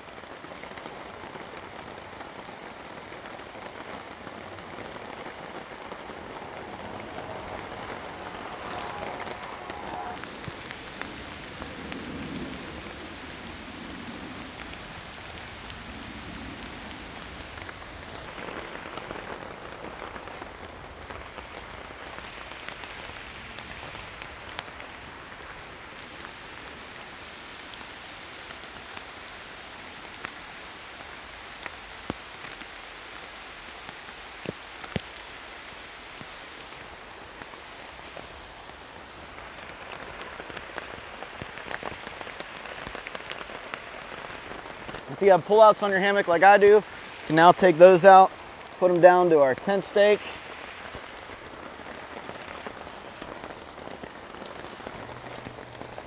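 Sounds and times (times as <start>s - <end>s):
rain falling through trees: 0.0s - 56.0s.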